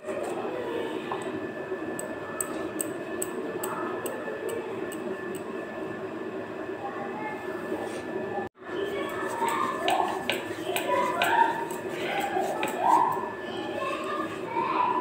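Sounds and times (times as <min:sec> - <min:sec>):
range hood fan whining: 0:00.0 - 0:15.0.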